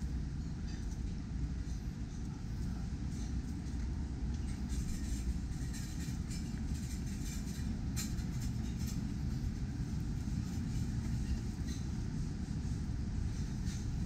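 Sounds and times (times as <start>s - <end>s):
city ambience rumble: 0.0s - 14.0s.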